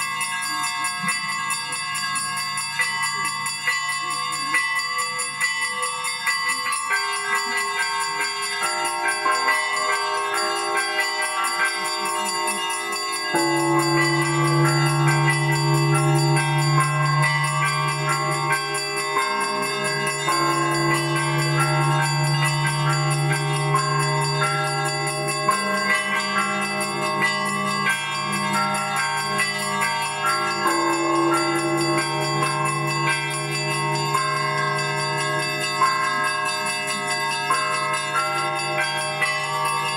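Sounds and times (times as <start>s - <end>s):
small church bells ringing quickly: 0.0s - 39.9s
deep bass bells: 6.3s - 39.9s.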